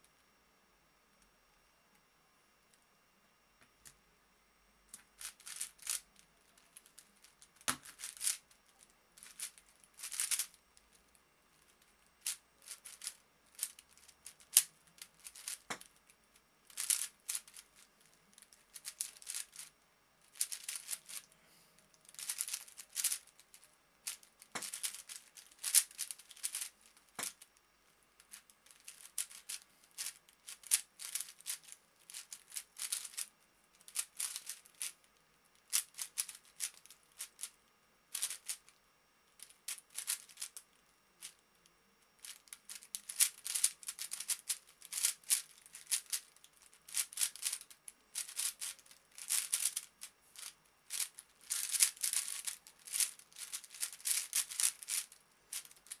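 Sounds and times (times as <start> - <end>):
speed cube clicking and rattling: 4.9 - 21.4, 22.0 - 27.5, 28.2 - 35.0, 35.6 - 41.4, 42.2 - 56.0.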